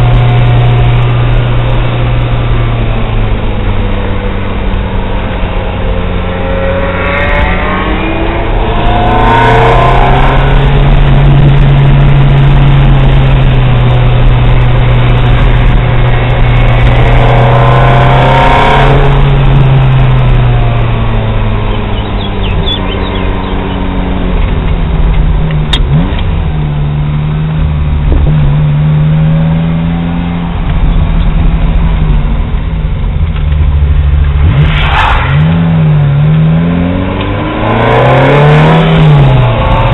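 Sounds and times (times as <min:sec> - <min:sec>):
car engine revving through gears: 0:00.0 - 0:32.0, 0:34.2 - 0:39.9.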